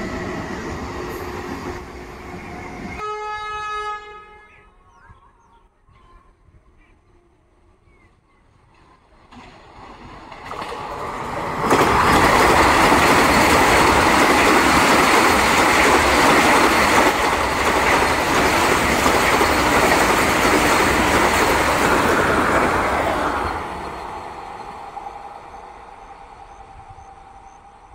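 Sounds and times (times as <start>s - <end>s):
train wheels rushing on rail: 0.0s - 3.0s, 8.5s - 27.9s.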